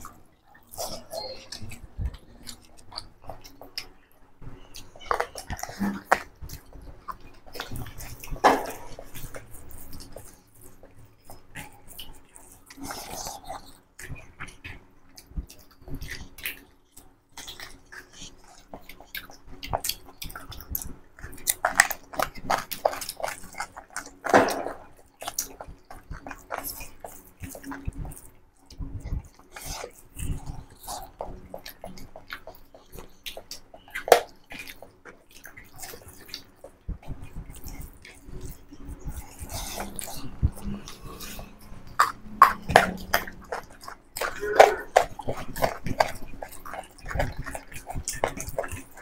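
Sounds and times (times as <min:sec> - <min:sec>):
fingers squishing food: 0:00.0 - 0:49.0
wet chewing and lip smacks: 0:00.0 - 0:49.0.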